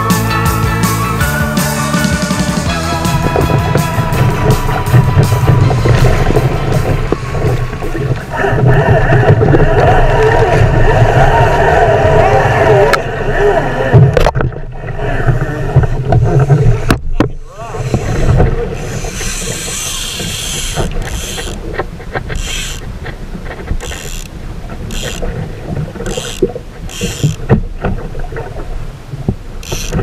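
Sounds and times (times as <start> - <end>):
water splashing at kayak: 2.2 - 30.0
wind rumble on microphone: 2.7 - 30.0.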